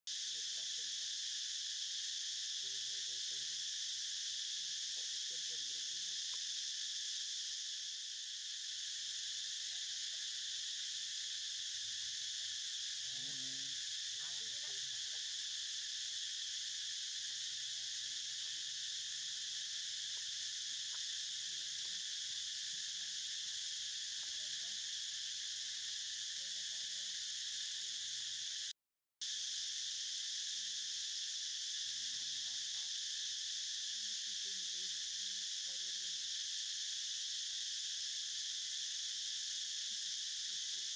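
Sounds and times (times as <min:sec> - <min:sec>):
high-pitched insect chorus: 0:00.1 - 0:40.9.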